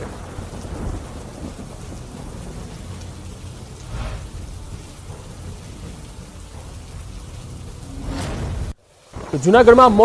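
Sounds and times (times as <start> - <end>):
low rumble of thunder: 0.0 - 9.4
heavy rain falling: 0.0 - 10.0.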